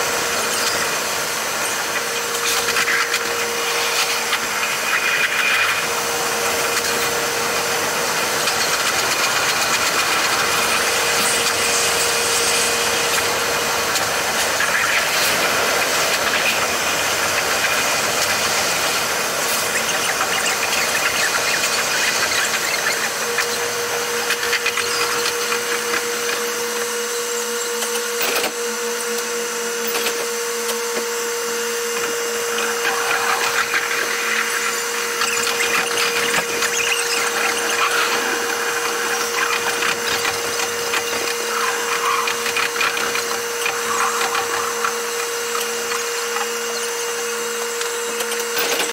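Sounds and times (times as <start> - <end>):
sped-up train whirr: 0.0 - 48.9.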